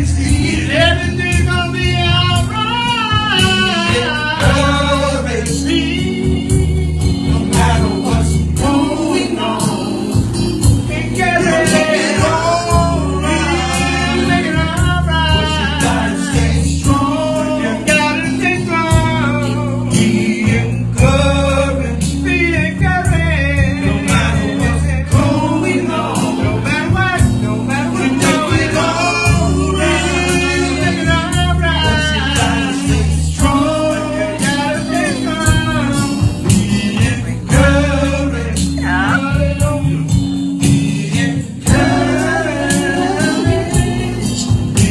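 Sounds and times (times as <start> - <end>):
blues band playing: 0.0 - 44.9
man singing: 0.0 - 44.9.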